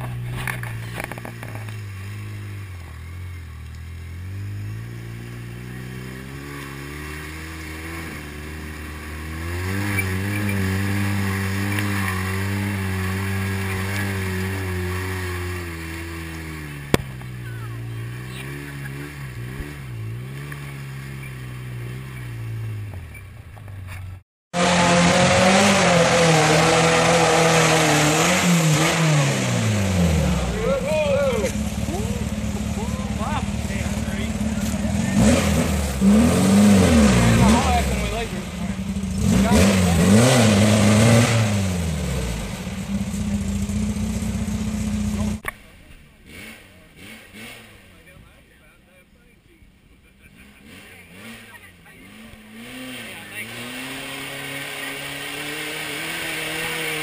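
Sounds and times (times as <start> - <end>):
vehicle engine idling: 0.0 - 24.2, 29.6 - 40.0, 41.7 - 53.5
engine revving hard: 4.2 - 22.8, 24.5 - 45.5, 46.2 - 48.2, 50.2 - 57.0.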